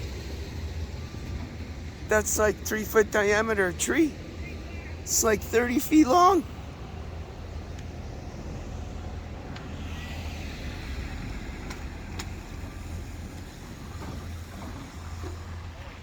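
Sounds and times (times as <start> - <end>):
low street rumble: 0.0 - 16.0
vehicle passing: 2.0 - 16.0.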